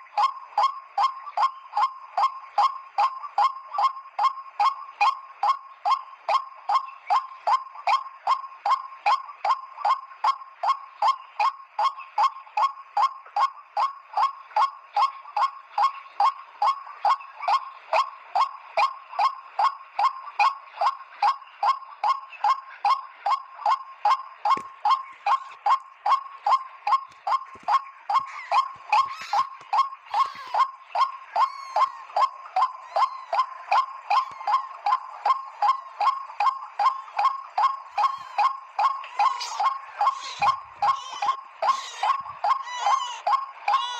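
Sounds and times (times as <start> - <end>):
waterhen calling: 3.0 - 43.9.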